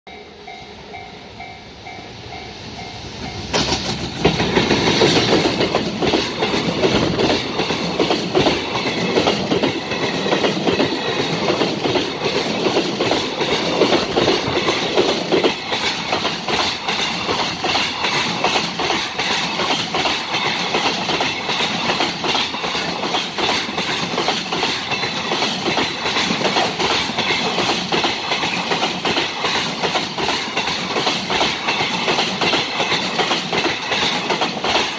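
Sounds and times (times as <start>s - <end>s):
locomotive rumbling past: 0.1s - 34.9s
wheels clacking over rail joints: 3.4s - 34.9s.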